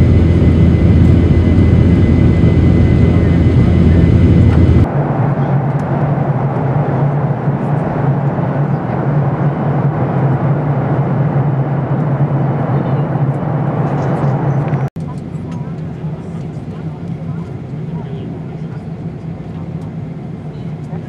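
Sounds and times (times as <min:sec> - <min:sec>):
airliner cabin air rush: 0:00.0 - 0:21.0
jet engine drone: 0:00.0 - 0:21.0.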